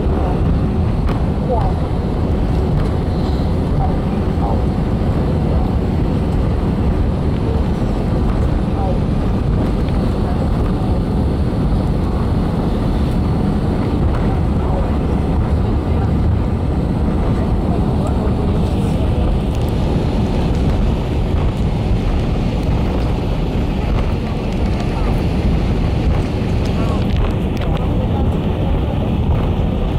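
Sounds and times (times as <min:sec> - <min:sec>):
airplane cabin rumble: 0:00.0 - 0:29.9.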